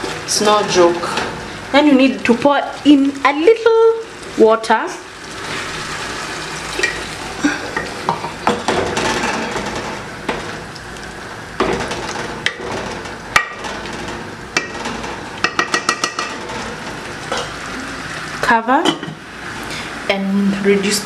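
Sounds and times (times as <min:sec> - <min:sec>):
stew sizzling in a pot: 0:00.0 - 0:13.9, 0:14.5 - 0:21.0.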